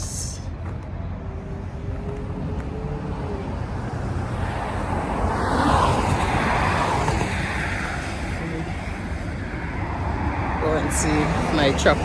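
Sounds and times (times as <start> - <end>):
vehicle passing by: 1.5 - 12.0.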